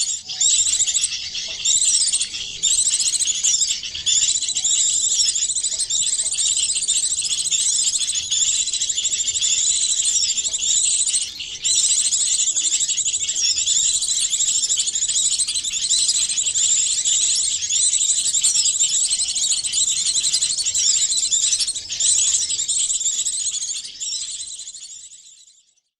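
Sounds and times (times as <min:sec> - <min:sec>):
songbirds chirping and twittering: 0:00.0 - 0:25.9.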